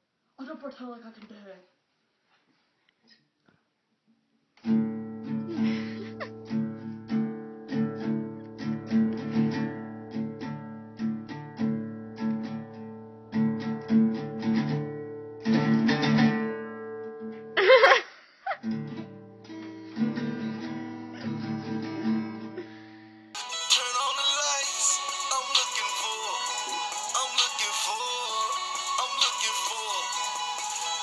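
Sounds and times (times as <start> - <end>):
acoustic guitar strumming: 4.6 - 17.6, 18.6 - 31.0.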